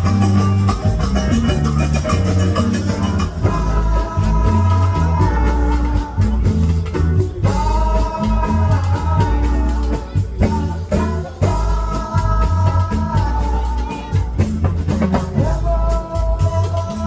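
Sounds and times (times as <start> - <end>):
band music with singing: 0.0 - 17.0.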